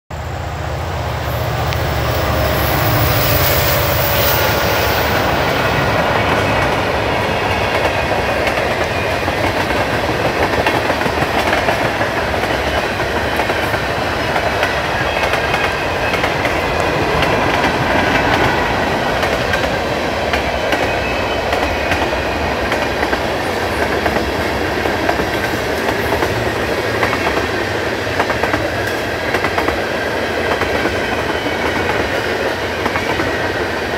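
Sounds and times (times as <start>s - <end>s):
train rumble: 0.1s - 33.9s
train wheels clacking on rails: 0.6s - 33.9s.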